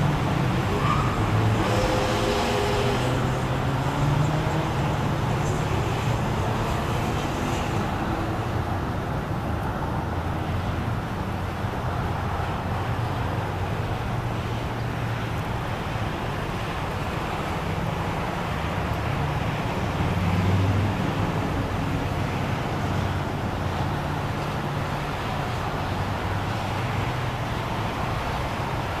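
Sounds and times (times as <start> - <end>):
car engines: 0.0 - 29.0.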